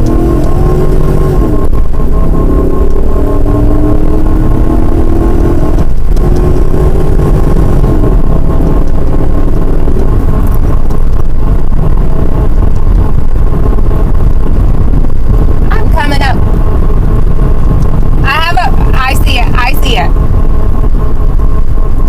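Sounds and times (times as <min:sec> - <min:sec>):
road and wind noise: 0:00.0 - 0:22.0
vehicle engine drone: 0:00.0 - 0:22.0.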